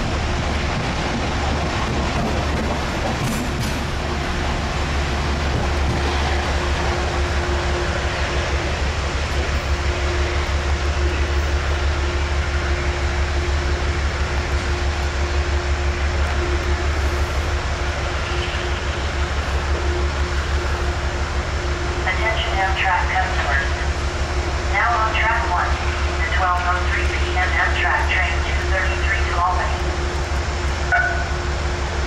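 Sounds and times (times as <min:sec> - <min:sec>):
train running past: 0:00.0 - 0:32.0.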